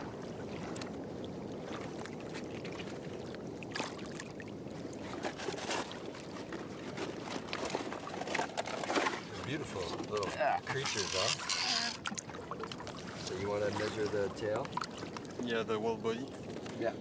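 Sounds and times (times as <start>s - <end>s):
small water splashes: 0.0s - 17.0s
water sloshing and lapping: 0.0s - 17.0s.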